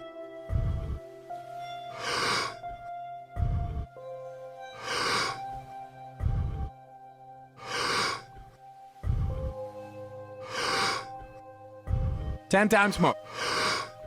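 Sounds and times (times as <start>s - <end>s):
person breathing rhythmically: 0.0s - 4.0s, 4.6s - 6.9s, 7.5s - 12.4s, 13.1s - 14.0s
soft music drone: 0.0s - 14.0s.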